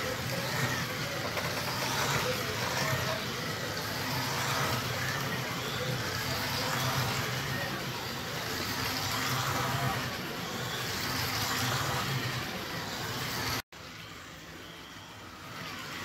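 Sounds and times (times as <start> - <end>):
tyres rushing over plastic track: 0.0 - 13.6
slot car motors whirring: 0.0 - 16.0.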